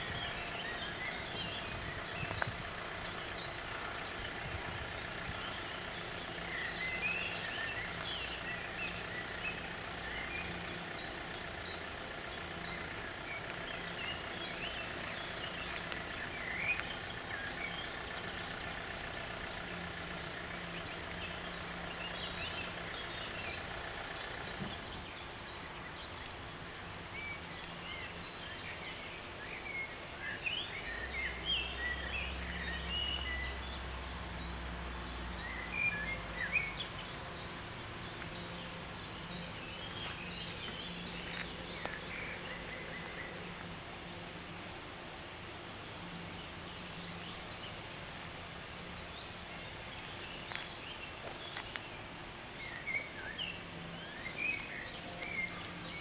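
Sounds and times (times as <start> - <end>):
low engine hum: 0.0 - 56.0
songbirds chirping: 0.0 - 56.0.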